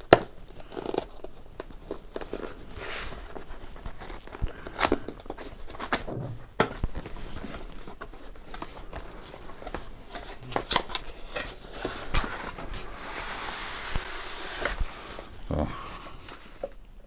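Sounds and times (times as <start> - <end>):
cardboard rubbing and scraping: 2.2 - 16.7.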